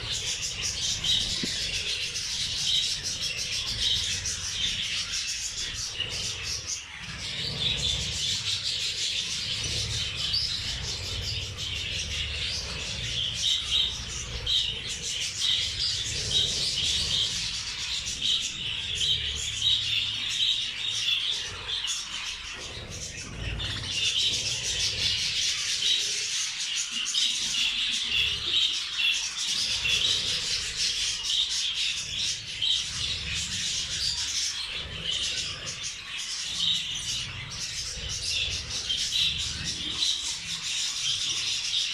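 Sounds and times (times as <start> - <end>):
birds chirping and chattering: 0.0 - 41.9.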